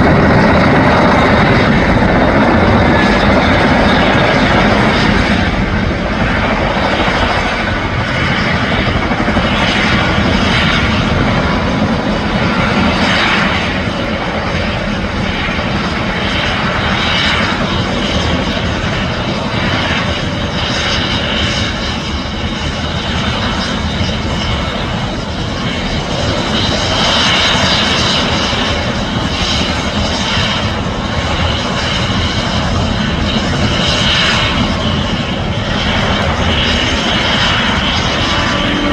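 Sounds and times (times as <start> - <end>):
helicopter engines and rotor: 0.0 - 38.9.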